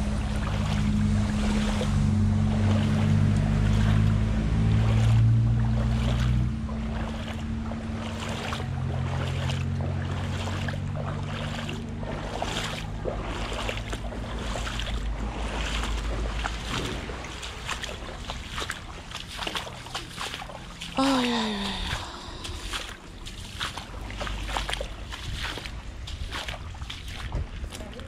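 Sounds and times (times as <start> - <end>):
boots splashing through water: 0.0 - 28.0
low steady rumble: 0.0 - 28.0.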